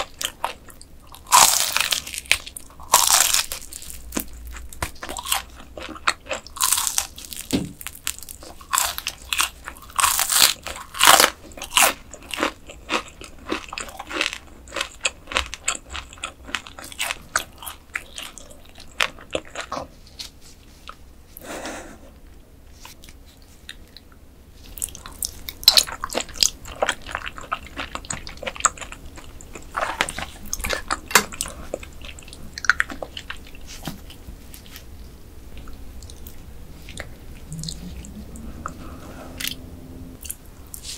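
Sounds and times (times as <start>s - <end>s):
crunching and chewing: 0.0s - 21.0s, 22.8s - 40.9s.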